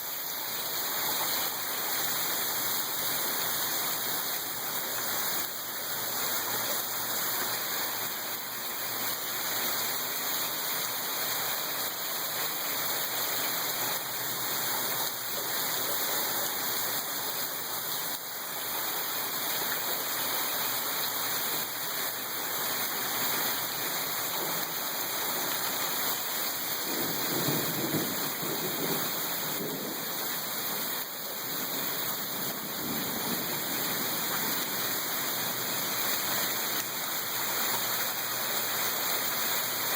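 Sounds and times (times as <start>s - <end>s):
hard rain falling: 0.0s - 39.9s.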